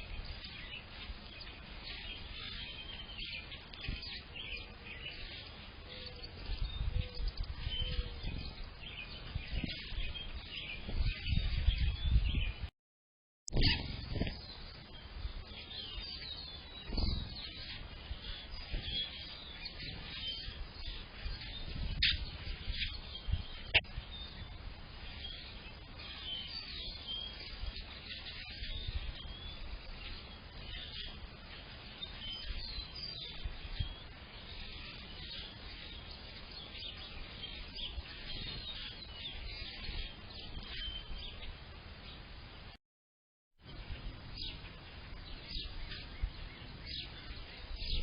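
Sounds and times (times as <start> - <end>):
songbirds chirping and singing: 0.0 - 12.7, 13.5 - 42.7, 43.6 - 48.0.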